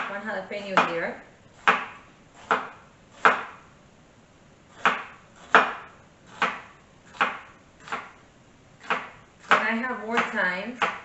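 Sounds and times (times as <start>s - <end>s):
knife chopping on wooden board: 0.0s - 3.7s, 4.7s - 8.2s, 8.8s - 11.0s.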